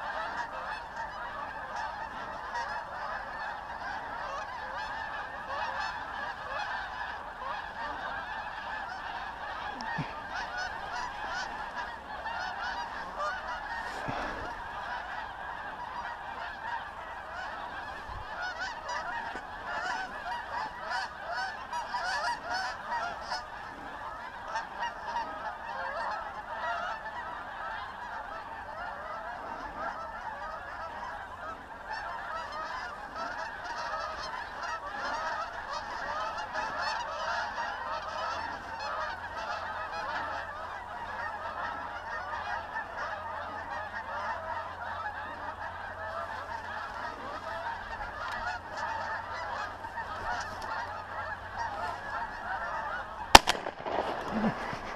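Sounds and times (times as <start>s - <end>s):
flock of geese honking: 0.0s - 54.9s.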